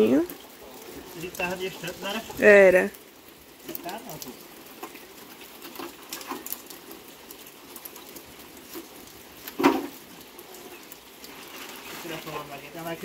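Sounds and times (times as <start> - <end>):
bonfire crackling: 0.0 - 13.0
drizzle patter: 0.0 - 13.0.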